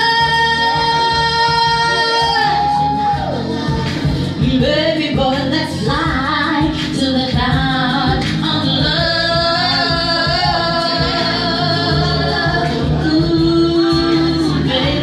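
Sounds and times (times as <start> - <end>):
music with steady beat: 0.0 - 15.0
woman singing: 0.0 - 15.0.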